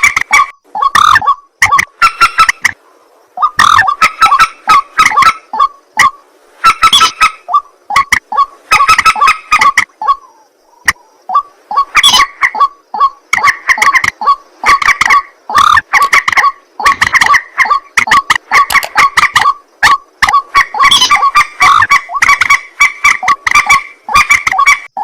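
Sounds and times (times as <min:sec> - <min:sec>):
birds croaking calls: 0:00.0 - 0:25.0.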